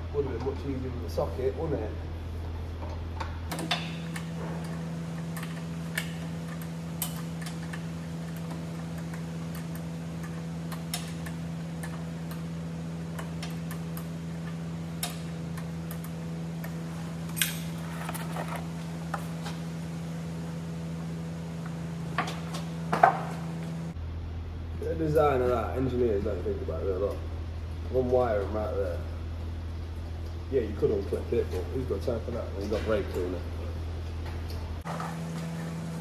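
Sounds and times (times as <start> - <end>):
steady workshop hum: 0.0 - 36.0.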